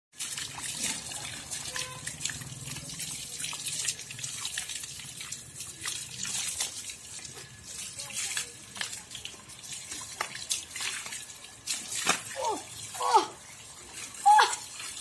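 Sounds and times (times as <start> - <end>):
water splashing from hose: 0.1 - 15.0.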